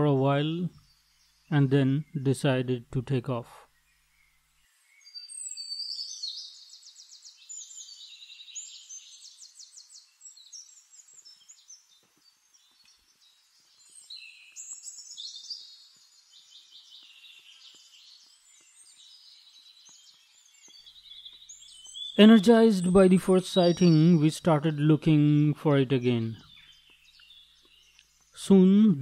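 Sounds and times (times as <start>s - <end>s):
songbirds trilling and chirping: 0.0s - 29.0s.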